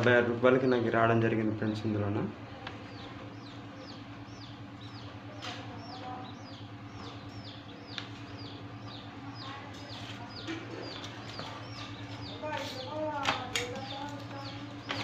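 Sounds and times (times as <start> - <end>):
bird chirping: 2.7 - 15.0.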